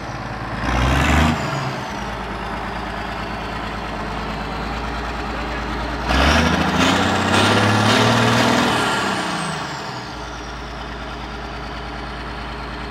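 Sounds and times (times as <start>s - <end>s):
tractor diesel engine revving: 0.0s - 12.9s.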